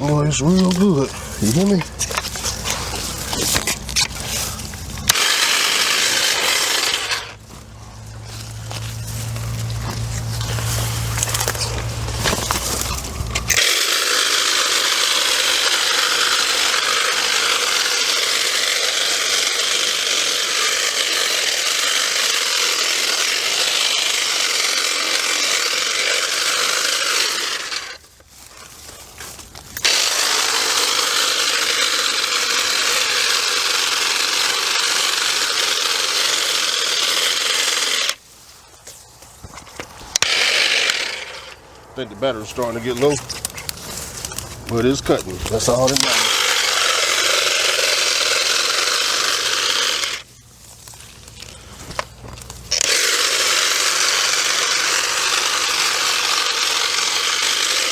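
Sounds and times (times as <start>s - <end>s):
electric cutting tool cutting brush: 0.0s - 57.9s.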